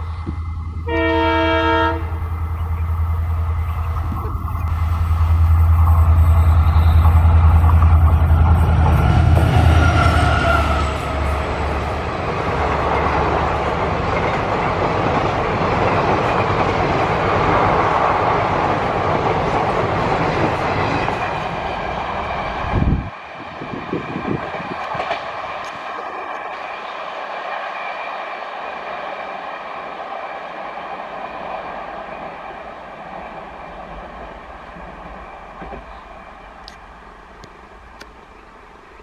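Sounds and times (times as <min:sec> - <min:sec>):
diesel locomotive engine droning: 0:00.0 - 0:39.0
wheels rumbling on rails: 0:00.0 - 0:39.0.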